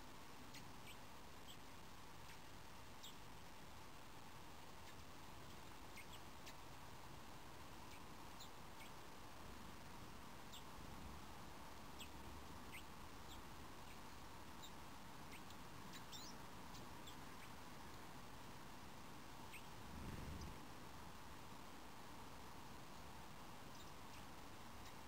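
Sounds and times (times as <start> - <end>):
faint steady hiss: 0.0 - 25.0
small birds calling: 0.3 - 4.0, 4.6 - 18.2, 19.3 - 20.6, 23.5 - 25.0.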